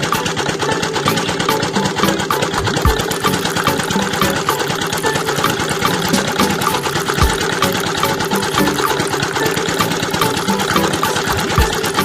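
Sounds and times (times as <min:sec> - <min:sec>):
small motor clattering: 0:00.0 - 0:12.0.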